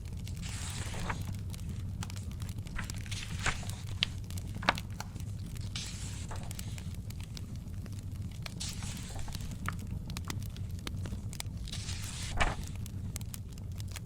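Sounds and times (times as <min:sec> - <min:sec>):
fire crackling: 0:00.0 - 0:14.0
sharp fire pops: 0:00.0 - 0:14.0
papery rustles: 0:00.3 - 0:07.6, 0:08.4 - 0:13.4.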